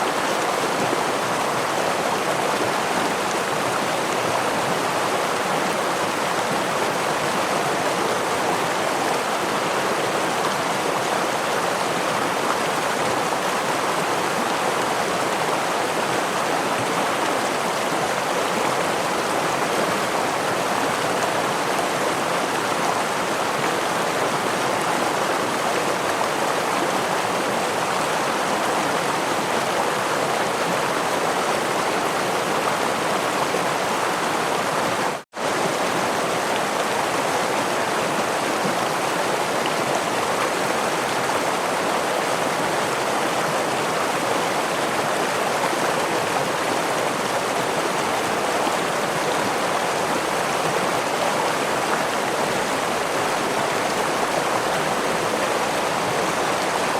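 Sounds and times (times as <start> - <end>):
stream and small waterfall rushing: 0.0 - 56.9.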